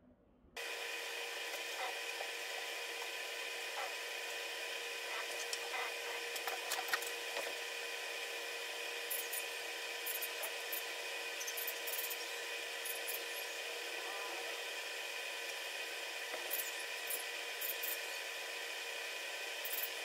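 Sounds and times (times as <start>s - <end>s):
room hiss and hum: 0.6s - 20.0s.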